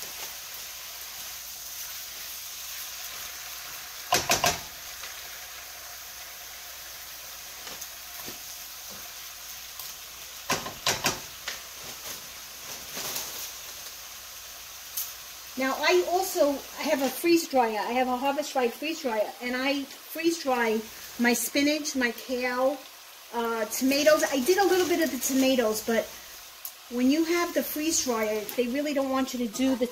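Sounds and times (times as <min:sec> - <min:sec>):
vegetables sizzling in a frying pan: 0:00.0 - 0:29.9.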